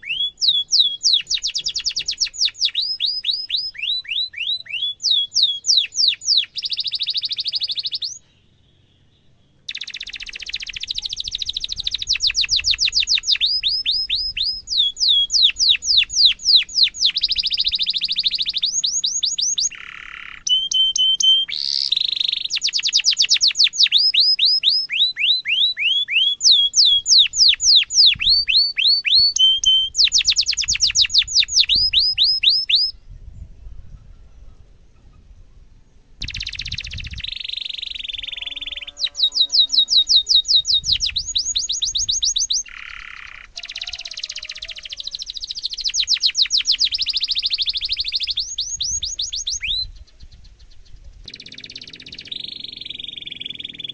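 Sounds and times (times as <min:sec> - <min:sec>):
canary singing: 0:00.0 - 0:33.0, 0:36.2 - 0:53.9.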